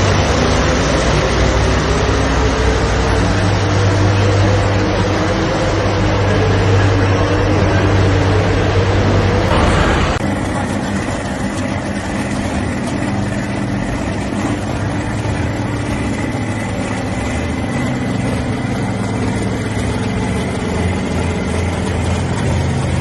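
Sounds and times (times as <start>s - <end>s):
heavy engine idling: 0.0s - 23.0s
thin steady whine: 0.0s - 23.0s.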